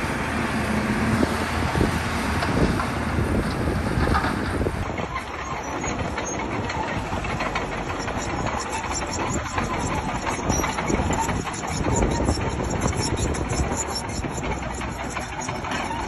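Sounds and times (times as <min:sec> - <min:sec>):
bulldozer tracks clanking: 0:00.0 - 0:16.0
diesel earthmoving machine running: 0:00.0 - 0:16.0.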